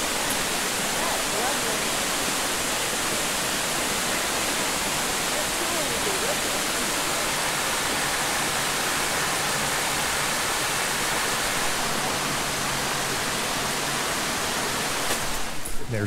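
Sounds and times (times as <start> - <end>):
creek rushing over rock: 0.0 - 15.6.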